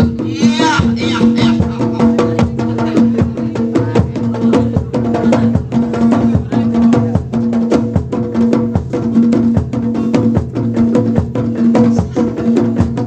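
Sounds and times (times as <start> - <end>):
drum and wood block beat: 0.0 - 13.0.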